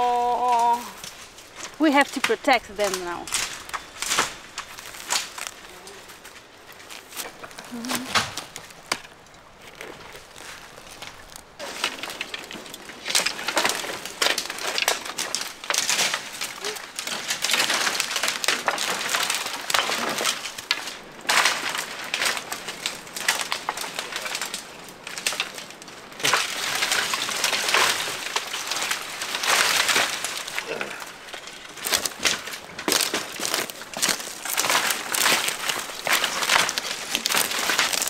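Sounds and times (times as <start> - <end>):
dry branches snapping underfoot: 0.0 - 38.0.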